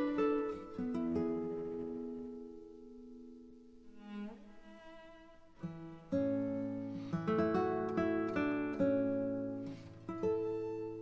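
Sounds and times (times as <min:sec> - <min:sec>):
guitar music: 0:00.0 - 0:11.0.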